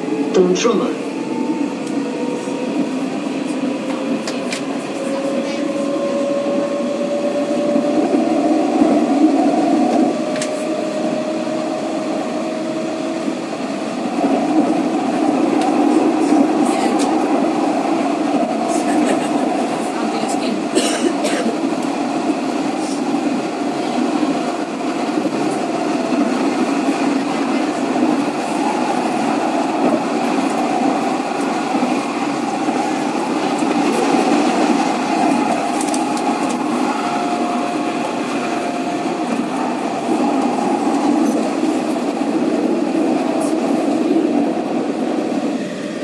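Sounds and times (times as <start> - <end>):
tram wheels rumbling on rail: 0.0 - 46.0.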